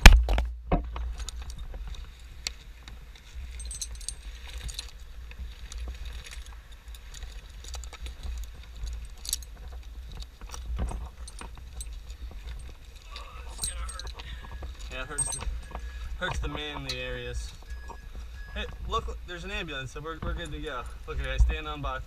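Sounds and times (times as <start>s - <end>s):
climbing hardware clinking: 0.9s - 19.0s, 20.1s - 21.7s.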